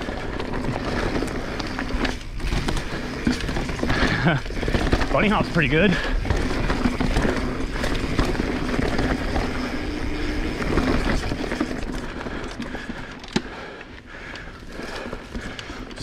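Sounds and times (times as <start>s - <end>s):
bike chassis rattle: 0.0s - 16.0s
bike tyres rolling on dirt: 0.0s - 16.0s.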